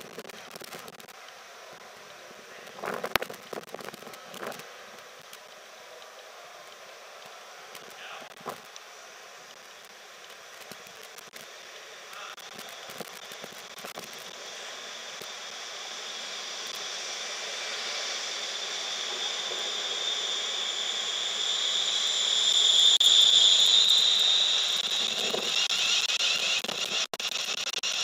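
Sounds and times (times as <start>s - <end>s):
electric train passing: 4.0s - 28.0s.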